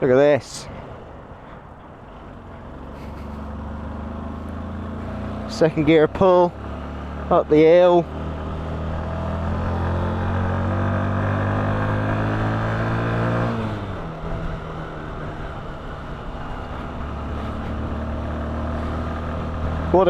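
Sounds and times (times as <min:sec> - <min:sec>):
motorcycle engine climbing revs: 0:00.7 - 0:20.0.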